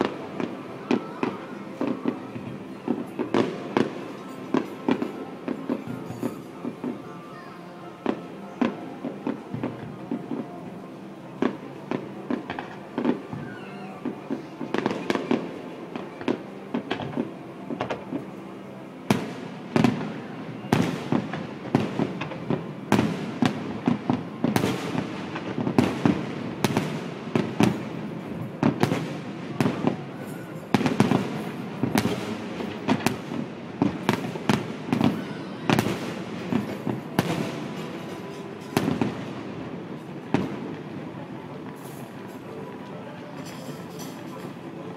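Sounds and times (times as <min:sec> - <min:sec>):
fireworks bursting with bangs: 0:00.0 - 0:44.9.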